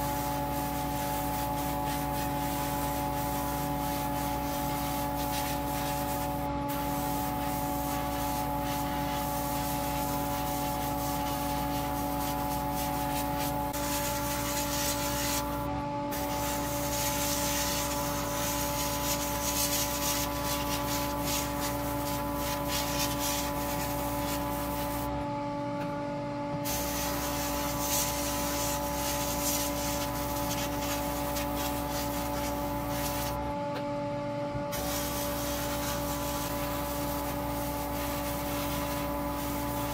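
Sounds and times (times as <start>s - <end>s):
airbrush hissing: 0.0s - 25.1s, 26.7s - 33.4s, 34.7s - 39.9s
spray booth fan hum: 0.0s - 39.9s.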